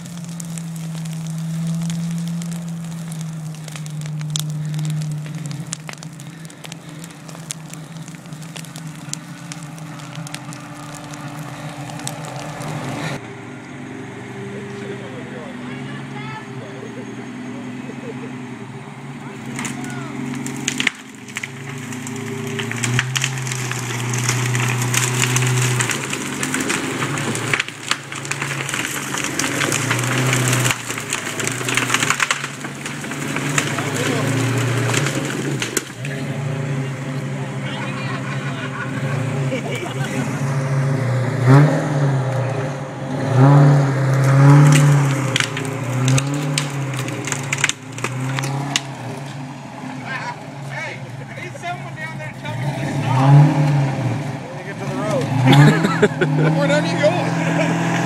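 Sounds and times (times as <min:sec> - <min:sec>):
branches cracking and snapping: 0:00.0 - 0:13.3, 0:19.2 - 0:58.0
truck engine running: 0:00.0 - 0:58.0.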